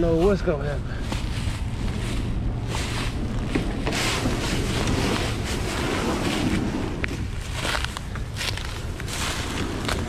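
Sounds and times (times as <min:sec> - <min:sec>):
wind rumble on microphone: 0:00.0 - 0:10.0
plastic hull scraping over leaves: 0:01.3 - 0:10.0.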